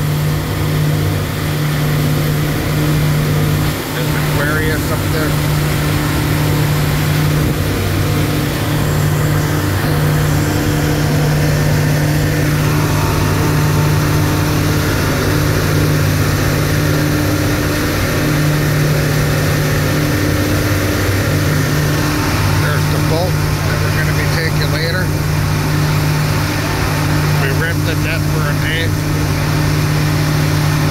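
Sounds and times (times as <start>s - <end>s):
boat engine droning: 0.0s - 30.9s.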